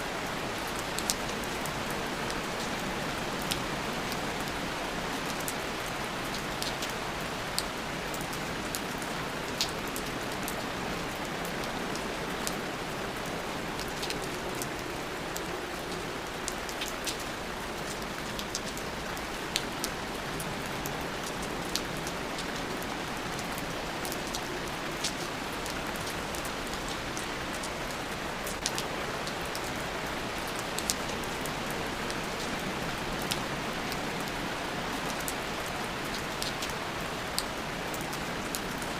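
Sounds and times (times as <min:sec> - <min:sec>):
raindrops pattering: 0:00.0 - 0:38.9
steady rain hiss: 0:00.0 - 0:38.9.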